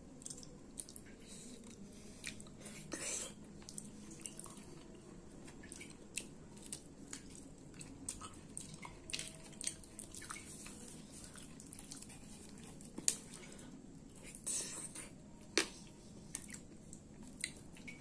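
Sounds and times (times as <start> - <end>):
chewing and wet mouth sounds: 0.0 - 18.0.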